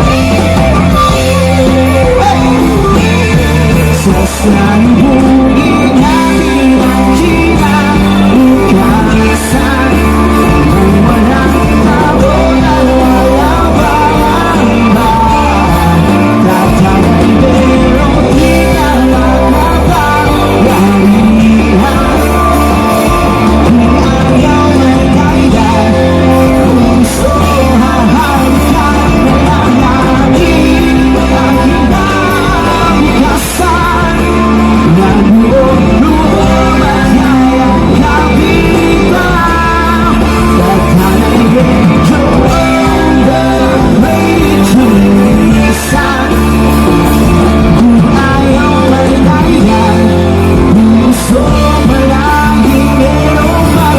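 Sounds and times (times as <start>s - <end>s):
rock band music with singer: 0.0s - 53.9s.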